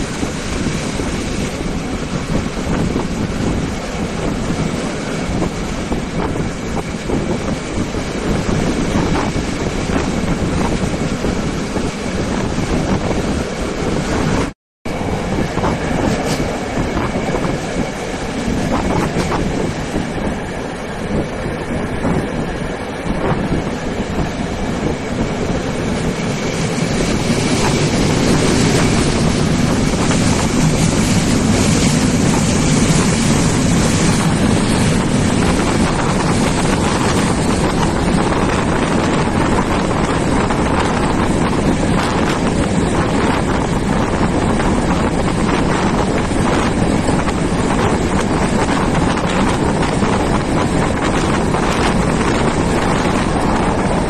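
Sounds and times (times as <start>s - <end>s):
rushing air: 0.0s - 54.0s
train wheels on rails: 0.0s - 54.0s.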